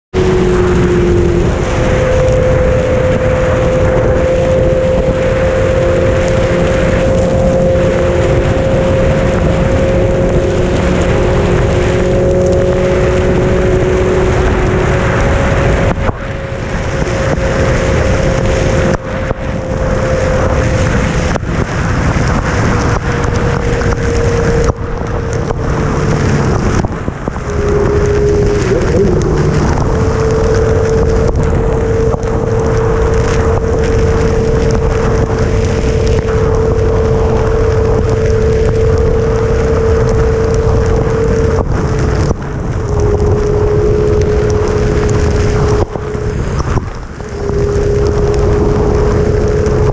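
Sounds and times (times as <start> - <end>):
motorcycle engine running: 0.0 - 49.9
wind rush on microphone: 0.0 - 49.9.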